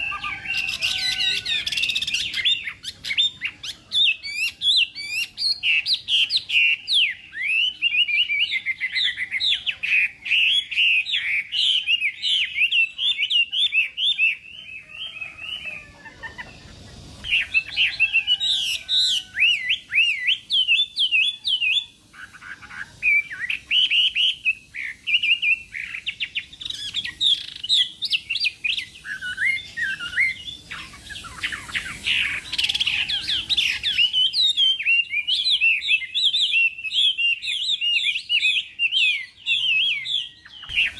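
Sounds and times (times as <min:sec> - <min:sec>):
bird singing whistled trills: 0:00.0 - 0:40.9.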